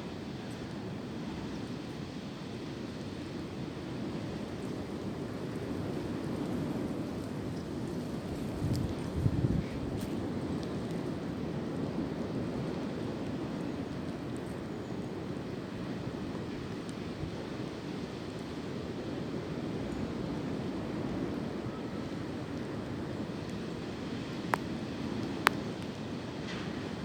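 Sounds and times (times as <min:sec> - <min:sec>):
wind through tree branches: 0:00.0 - 0:27.0.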